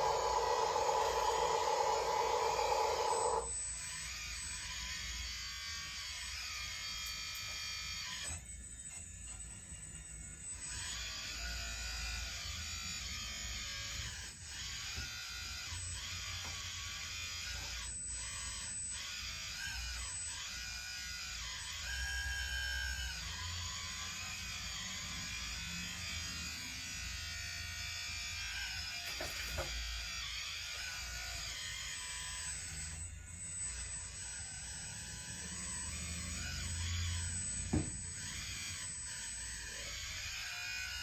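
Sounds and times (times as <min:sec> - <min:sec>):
small electric motors whining: 0:00.0 - 0:41.0.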